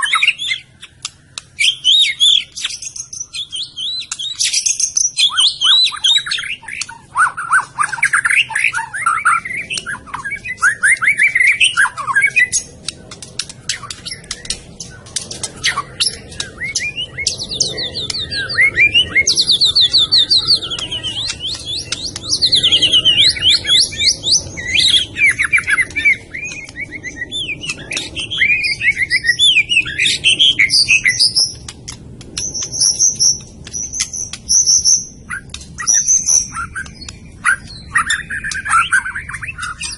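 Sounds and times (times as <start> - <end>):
bird singing trills and whistles: 0.0 - 39.9
sharp bird clicking notes: 0.1 - 39.9.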